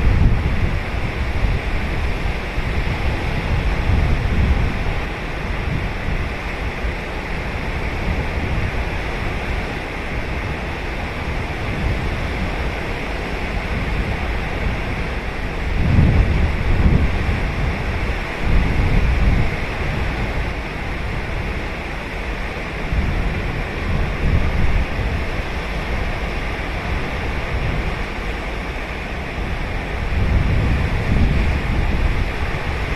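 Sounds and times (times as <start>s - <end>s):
surf breaking on a beach: 0.0s - 32.9s
wind buffeting the microphone: 0.0s - 32.9s.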